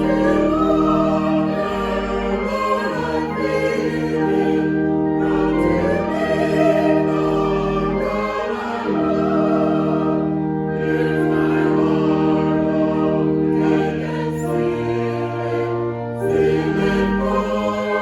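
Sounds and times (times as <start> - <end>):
choir singing slow chords: 0.0 - 18.0.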